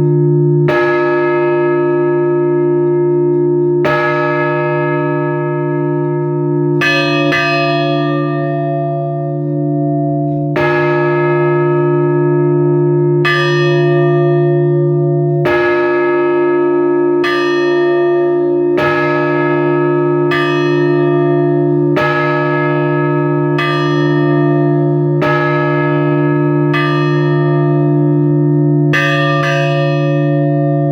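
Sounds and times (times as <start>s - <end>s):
church bell strokes: 0.0s - 30.9s
large bell humming: 0.0s - 30.9s.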